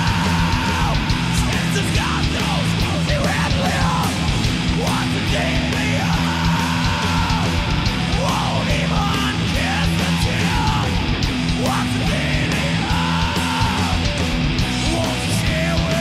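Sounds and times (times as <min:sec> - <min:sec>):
drum kit with cymbal hits: 0:00.0 - 0:16.0
electric guitar: 0:00.0 - 0:16.0.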